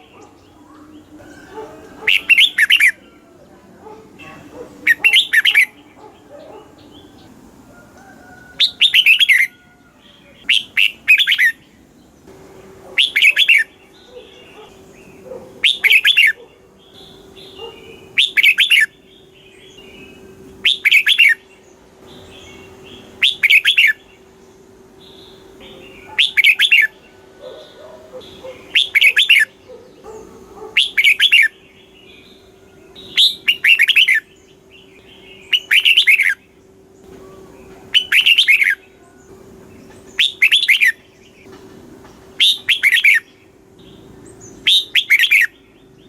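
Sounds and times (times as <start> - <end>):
bird warbling song: 0.0 - 41.7, 42.3 - 46.0
faint steady low hum: 0.0 - 46.0.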